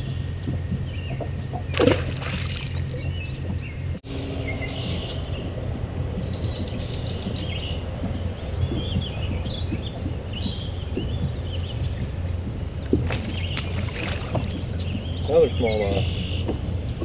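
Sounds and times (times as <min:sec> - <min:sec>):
low steady rumble: 0:00.0 - 0:17.0
small birds chirping: 0:02.5 - 0:17.0.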